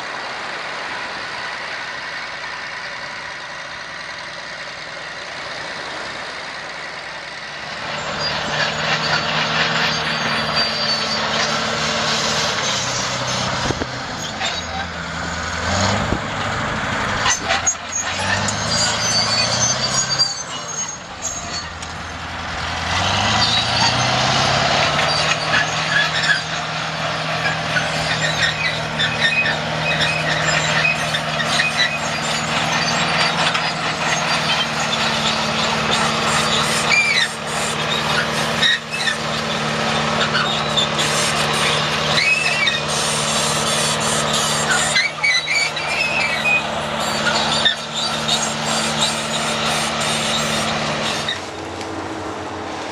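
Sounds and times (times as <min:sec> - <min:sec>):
heavy machine engine running: 0:00.0 - 0:52.9
high squeaks and clatter: 0:07.6 - 0:52.0.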